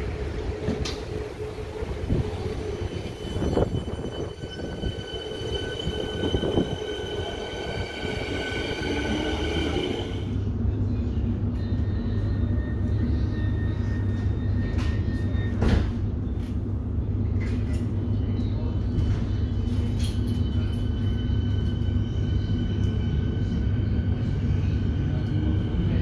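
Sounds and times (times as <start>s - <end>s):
electric train whine: 0.0s - 15.6s, 18.8s - 26.0s
train low hum: 0.0s - 26.0s.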